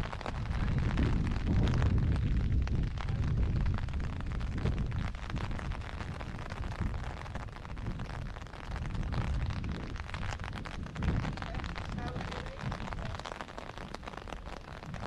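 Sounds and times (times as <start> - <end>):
rain pattering: 0.0 - 15.0
steady low rumble: 0.0 - 15.0.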